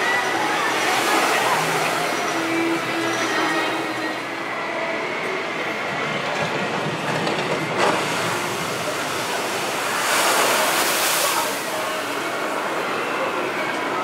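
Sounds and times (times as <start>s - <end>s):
ride boat rumbling down track: 0.0s - 14.0s.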